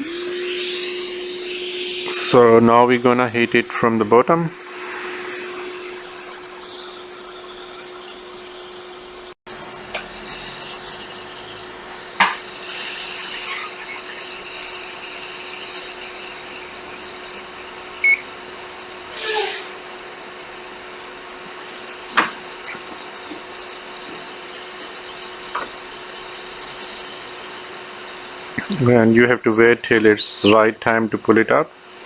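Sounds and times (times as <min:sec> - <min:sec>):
hot-air heater blowing: 0:00.0 - 0:32.0.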